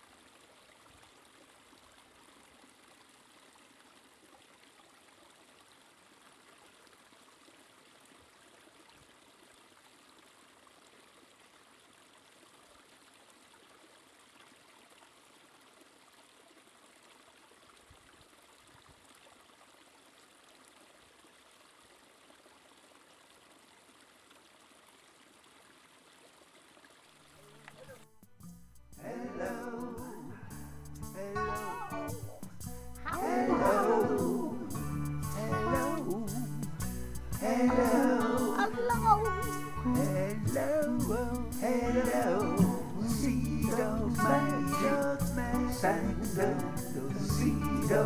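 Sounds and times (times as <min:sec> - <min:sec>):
stream trickling over rocks: 0:00.0 - 0:48.0.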